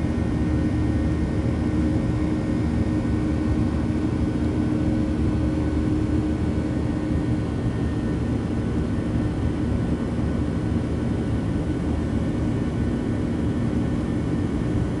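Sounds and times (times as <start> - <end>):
jet engine roar in cabin: 0.0 - 15.0.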